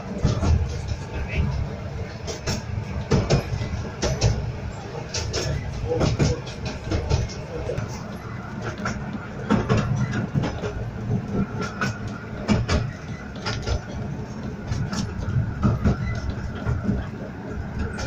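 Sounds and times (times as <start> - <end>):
railway carriage rumbling: 0.0 - 18.0
wheels clicking over rail joints: 0.0 - 18.0.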